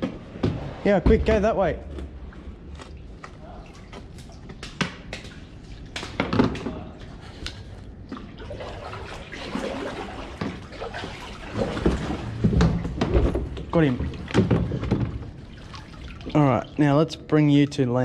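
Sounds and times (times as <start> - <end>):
water splashing around kayaks: 0.7 - 17.0.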